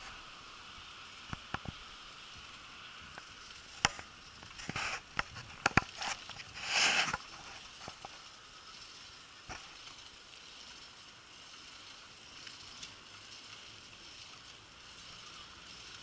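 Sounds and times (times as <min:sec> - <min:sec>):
wind and tyre hiss: 0:00.0 - 0:16.0
bike knocking and rattling on bumps: 0:01.1 - 0:16.0.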